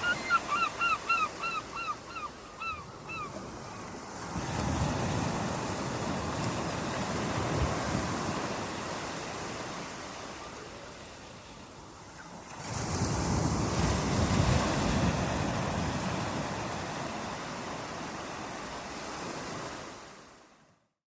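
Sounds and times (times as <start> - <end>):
ocean waves washing: 0.0 - 20.5.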